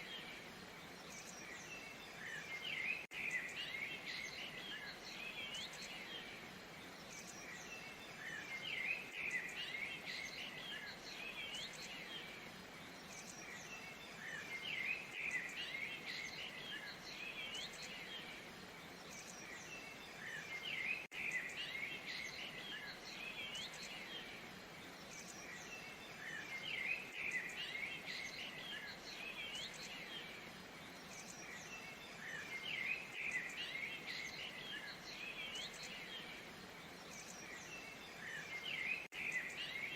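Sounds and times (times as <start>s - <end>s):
small birds chirping and whistling: 0.0s - 39.9s.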